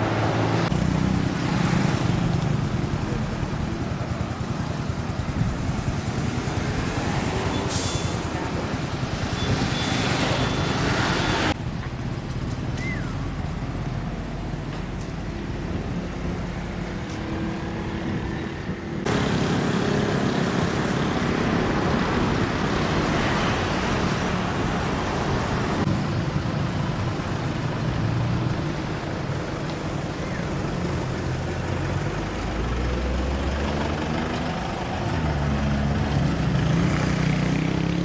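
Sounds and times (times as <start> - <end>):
road noise: 0.0 - 38.0.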